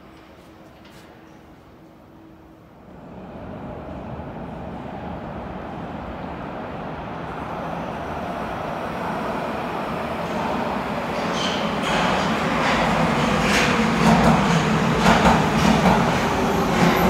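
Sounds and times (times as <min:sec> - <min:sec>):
subway train approaching: 0:00.0 - 0:17.0.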